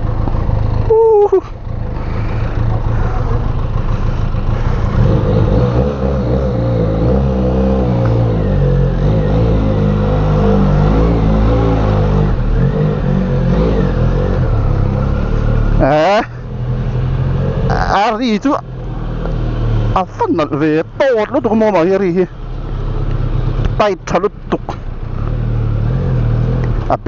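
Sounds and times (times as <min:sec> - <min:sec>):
motorcycle engine revving: 0:02.0 - 0:27.0.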